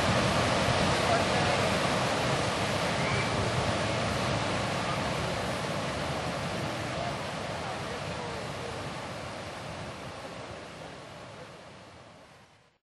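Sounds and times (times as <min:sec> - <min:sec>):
river water rushing: 0:00.0 - 0:12.8.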